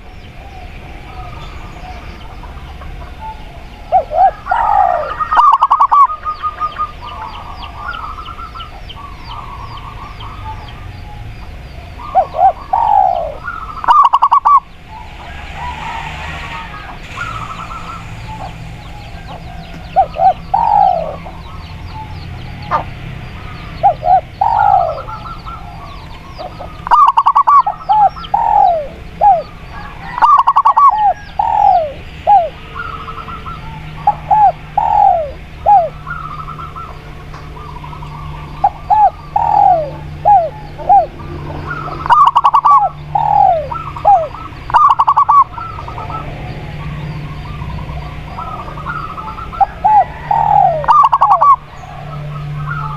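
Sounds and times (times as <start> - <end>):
doves cooing: 0.0 - 52.9
small birds chirping: 0.0 - 52.9.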